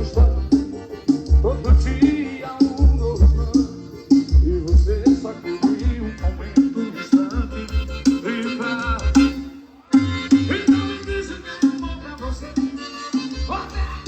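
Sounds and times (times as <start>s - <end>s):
pop music with bass and singing: 0.0s - 14.0s.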